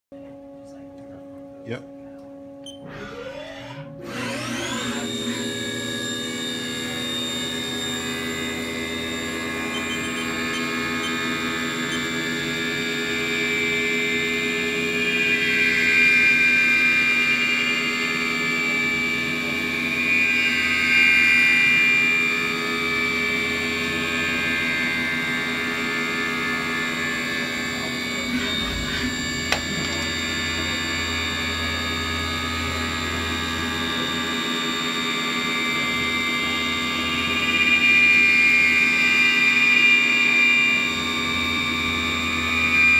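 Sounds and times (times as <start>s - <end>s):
milling machine spindle whine: 2.6s - 42.9s
end mill cutting metal: 2.8s - 42.9s.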